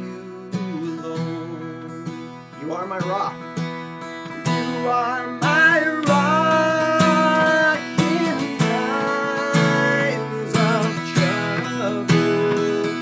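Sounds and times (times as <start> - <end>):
man singing: 0.0 - 3.4, 4.4 - 13.0
acoustic guitar strumming: 0.0 - 13.0.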